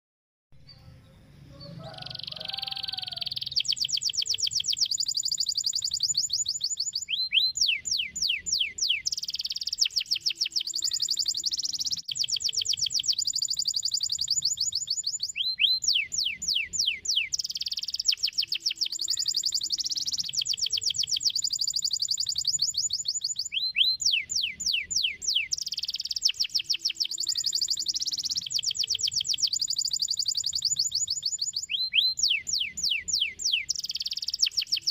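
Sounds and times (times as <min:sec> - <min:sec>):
canary singing trills: 0:00.6 - 0:34.9
canary down-slurred whistles: 0:01.8 - 0:34.9.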